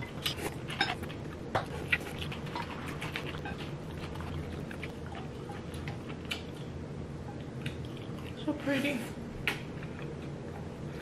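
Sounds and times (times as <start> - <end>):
people chewing: 0.0 - 8.5, 9.5 - 11.0
low steady hum: 0.0 - 11.0.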